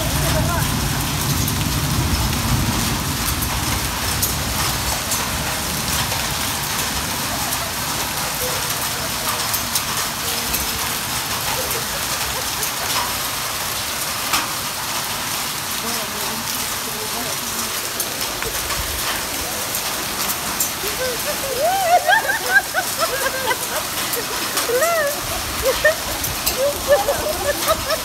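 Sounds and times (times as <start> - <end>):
hailstones ticking on ground: 0.0 - 28.0
rain hissing: 0.0 - 28.0.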